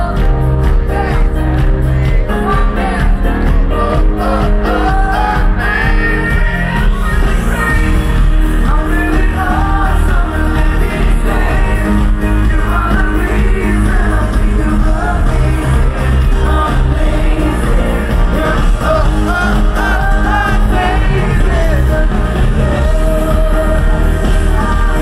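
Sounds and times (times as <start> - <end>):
heavy bass: 0.0 - 25.0
live pop band through loudspeakers: 0.0 - 25.0
man singing: 0.0 - 25.0.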